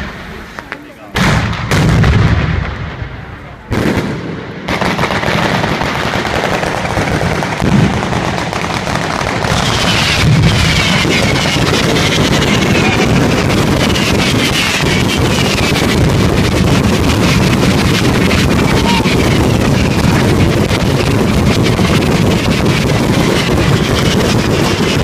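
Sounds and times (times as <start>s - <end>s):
firecrackers exploding: 0.0s - 25.0s.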